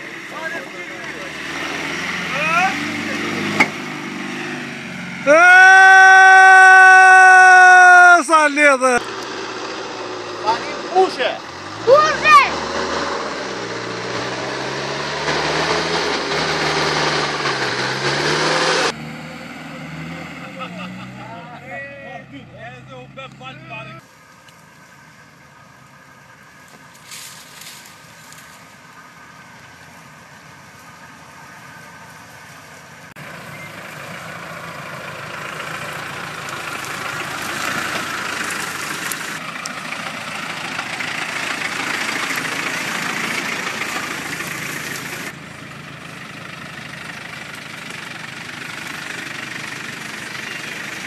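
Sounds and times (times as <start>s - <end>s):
off-road vehicle engines: 0.0s - 51.0s.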